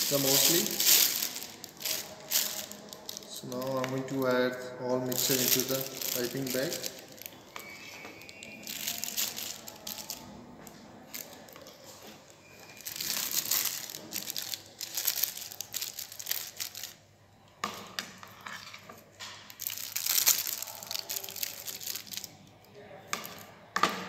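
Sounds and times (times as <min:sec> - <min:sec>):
plastic piping bag crinkling: 0:00.0 - 0:04.4, 0:05.0 - 0:17.0, 0:18.4 - 0:22.6.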